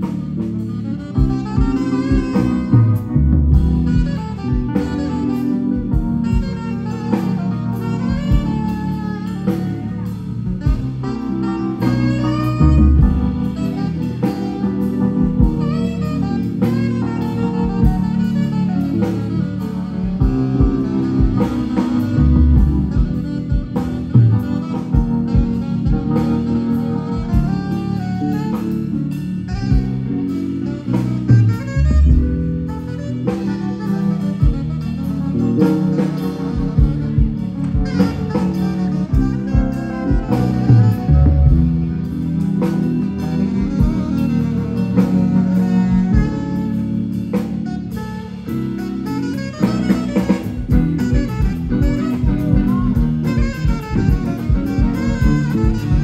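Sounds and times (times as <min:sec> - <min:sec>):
alto saxophone: 0:00.0 - 0:56.0
drum kit: 0:00.0 - 0:56.0
electric guitar: 0:00.0 - 0:56.0.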